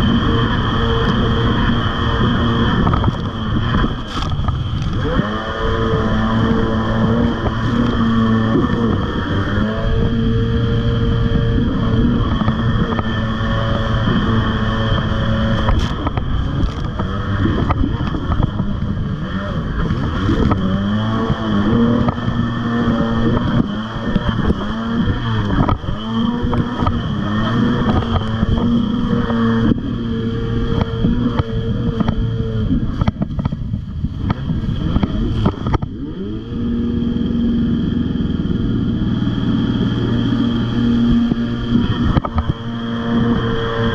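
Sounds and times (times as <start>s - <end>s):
jet ski engine running: 0.0s - 43.9s
wind on microphone: 0.0s - 43.9s.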